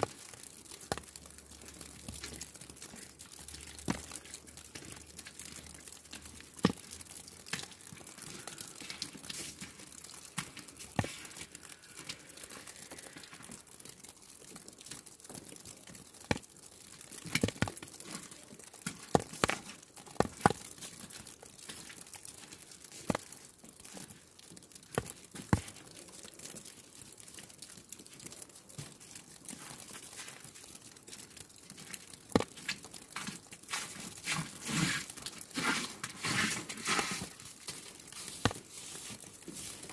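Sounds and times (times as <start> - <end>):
falling snow ticking and crackling: 0.0 - 39.9.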